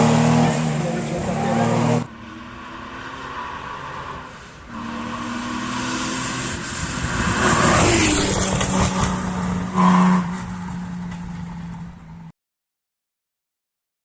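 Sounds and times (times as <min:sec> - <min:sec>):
rally car passing by: 0:00.0 - 0:12.3.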